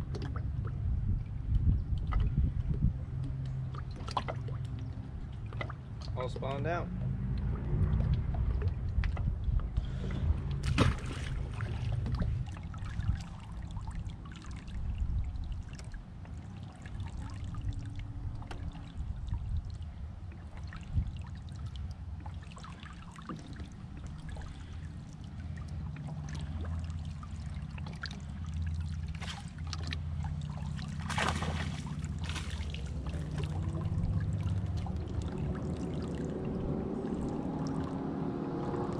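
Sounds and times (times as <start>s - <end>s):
steady low rumble: 0.0s - 38.9s
water lapping against hull: 0.0s - 38.9s.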